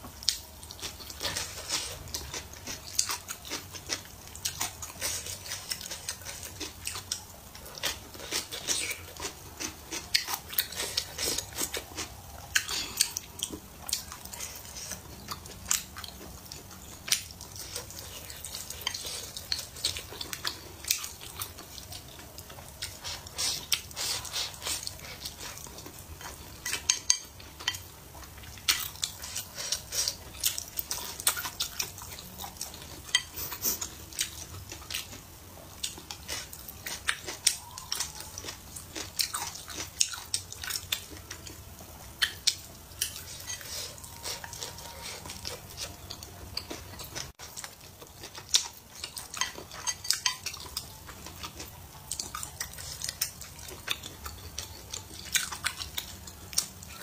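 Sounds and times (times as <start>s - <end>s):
chewing: 0.2s - 57.0s.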